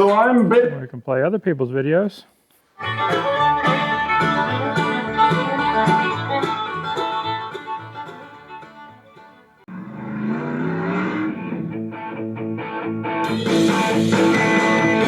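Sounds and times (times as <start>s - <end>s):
bluegrass music on radio: 0.0s - 9.7s, 11.9s - 15.0s.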